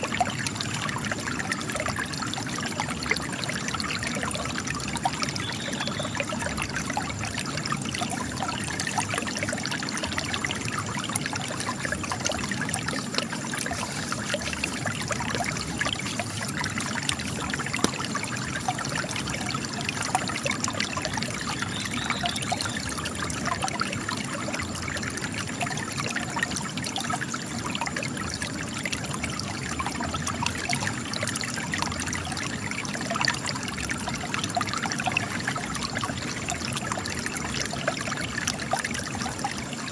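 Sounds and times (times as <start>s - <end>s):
spring water trickling over rock: 0.0s - 39.9s.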